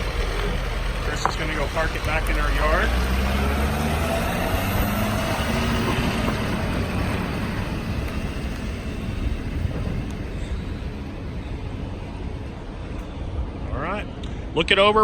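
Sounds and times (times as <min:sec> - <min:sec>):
diesel truck driving away: 0:00.0 - 0:14.2.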